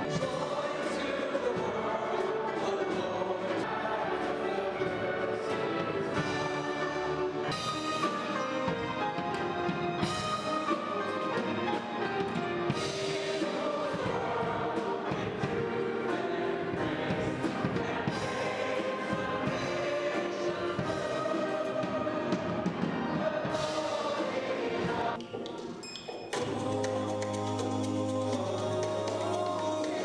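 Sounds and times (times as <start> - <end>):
choir singing: 0.0 - 30.0
sustained musical accompaniment: 0.0 - 30.0.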